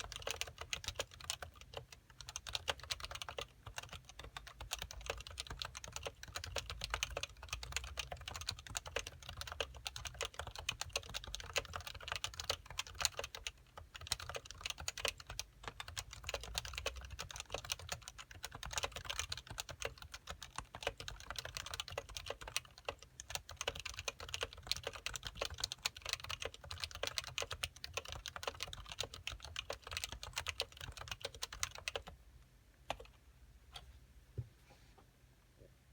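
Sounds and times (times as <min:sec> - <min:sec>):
keyboard typing: 0:00.0 - 0:32.2, 0:32.9 - 0:33.2.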